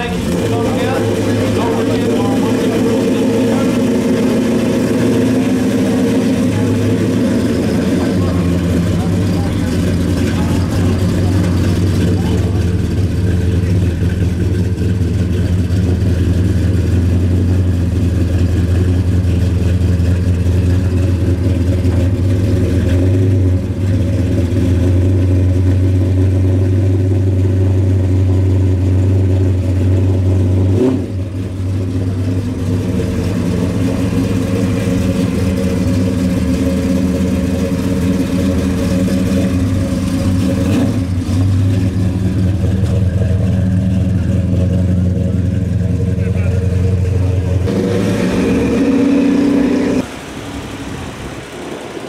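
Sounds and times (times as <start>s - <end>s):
car engine idling and pulling away: 0.0s - 52.0s.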